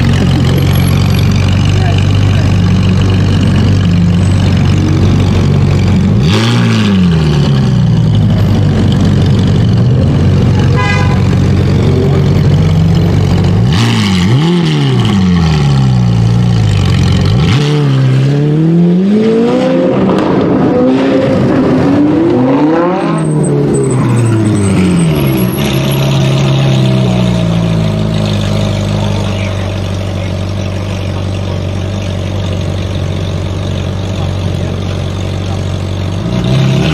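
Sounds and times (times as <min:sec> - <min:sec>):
sports car engine revving: 0:00.0 - 0:36.9.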